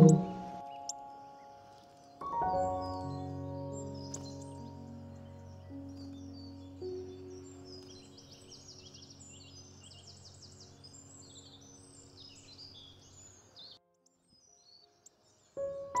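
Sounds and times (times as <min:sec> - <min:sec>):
birds chirping: 0:00.0 - 0:13.8
soft background music tones: 0:00.0 - 0:16.0.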